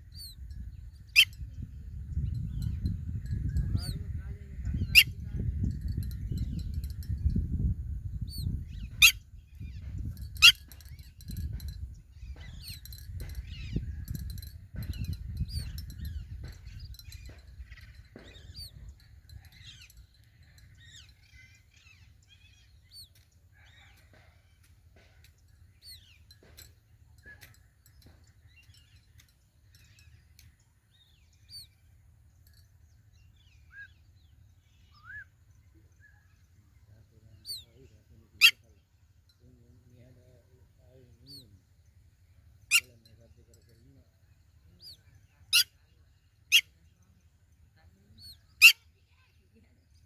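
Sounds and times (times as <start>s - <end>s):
small bird chirping: 0.0s - 50.0s.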